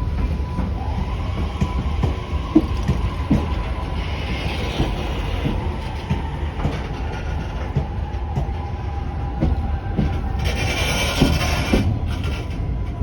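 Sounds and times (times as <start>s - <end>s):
freight train rumble: 0.0s - 13.0s
train wheels clacking over rail joints: 0.0s - 13.0s.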